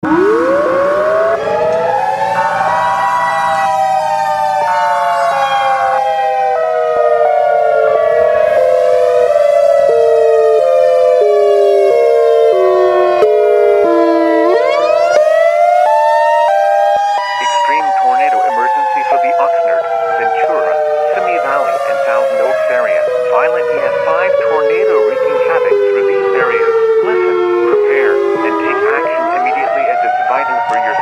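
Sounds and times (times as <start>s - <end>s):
warning sirens wailing: 0.0s - 31.0s.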